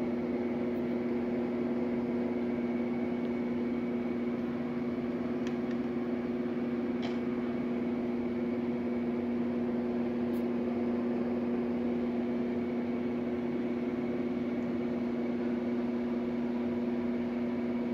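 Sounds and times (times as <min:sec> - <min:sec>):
mechanical hum with pitched tones: 0:00.0 - 0:17.9.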